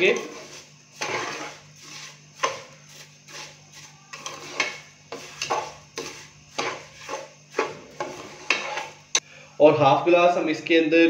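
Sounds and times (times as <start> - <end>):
wooden spatula scraping pot: 0.0 - 9.2.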